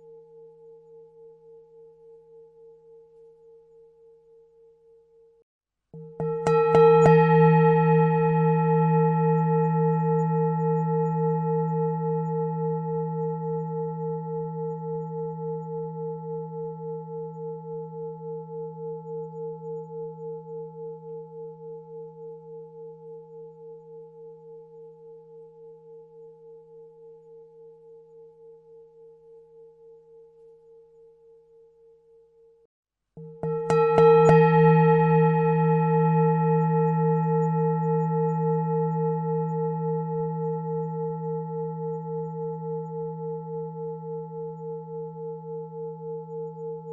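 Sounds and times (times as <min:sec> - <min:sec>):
singing bowl ringing: 0:00.0 - 0:05.4, 0:06.0 - 0:46.9.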